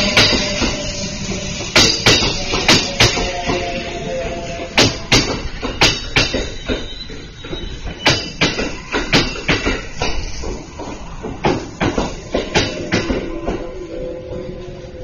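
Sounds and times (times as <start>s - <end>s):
train wheels clacking over rail joint: 0.0s - 13.7s
steady train rumble: 0.0s - 15.0s.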